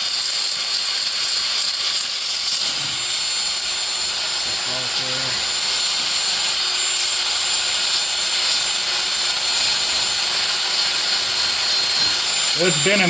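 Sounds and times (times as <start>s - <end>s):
rotary power tool whining: 0.0s - 13.0s.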